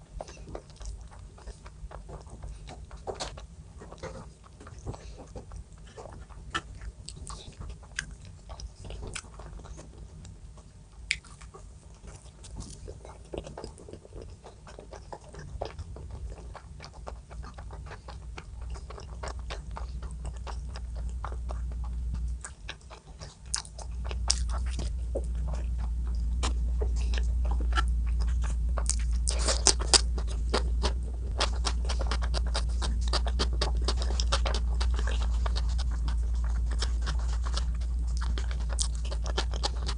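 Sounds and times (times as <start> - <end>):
low steady hum: 0.0 - 39.9
person chewing crunchy food: 0.0 - 39.9.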